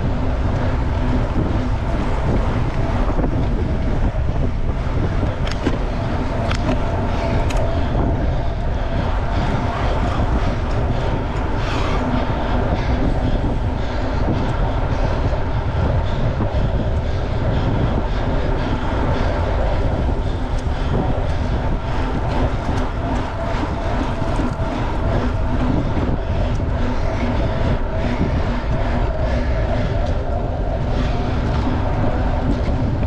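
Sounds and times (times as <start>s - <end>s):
wind rush on microphone: 0.0s - 33.0s.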